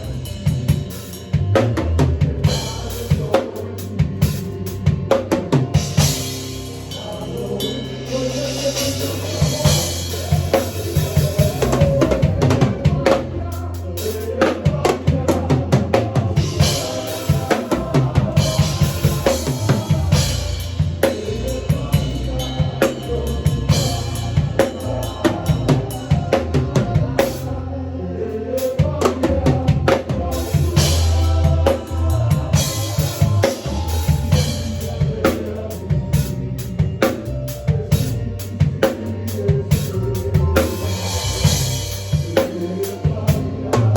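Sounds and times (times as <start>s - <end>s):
drum kit fast groove: 0.0s - 27.6s, 28.6s - 43.9s.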